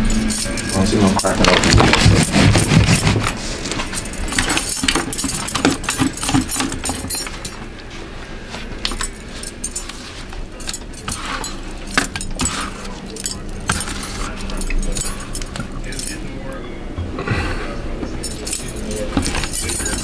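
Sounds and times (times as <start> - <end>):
metal bangles clinking: 0.0 - 7.6, 8.8 - 16.3, 18.2 - 20.0.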